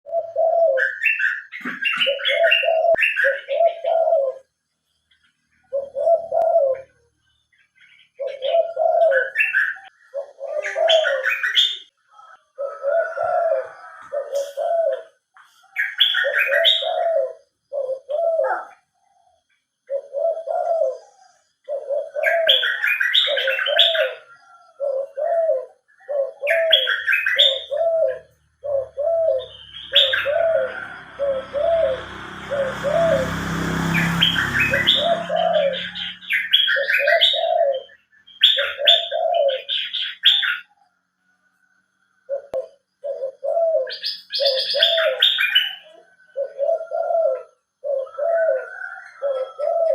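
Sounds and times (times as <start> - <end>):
dove cooing: 0.0 - 4.6, 5.6 - 7.1, 7.8 - 41.0, 42.0 - 49.9
bird chirping: 0.0 - 49.9.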